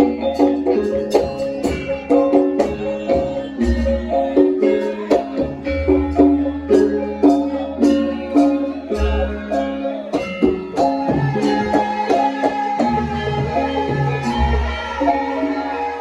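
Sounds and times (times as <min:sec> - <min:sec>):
metallophone notes: 0:00.0 - 0:16.0.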